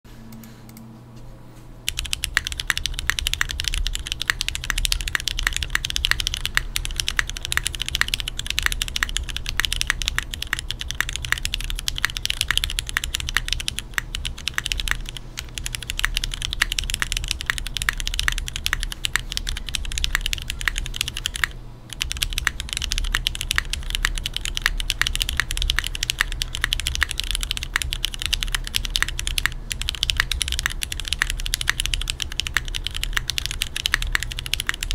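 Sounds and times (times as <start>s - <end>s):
mechanical keyboard typing: 1.9s - 34.9s.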